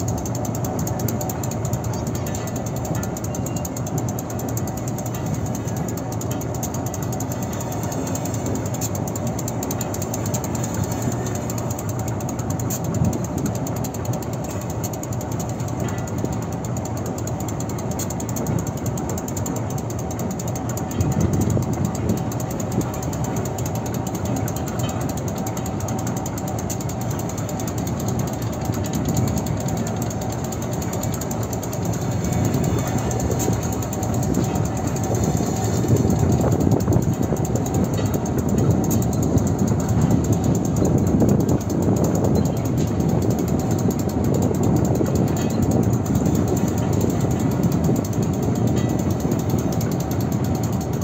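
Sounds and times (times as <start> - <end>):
train rolling on track: 0.0 - 51.0.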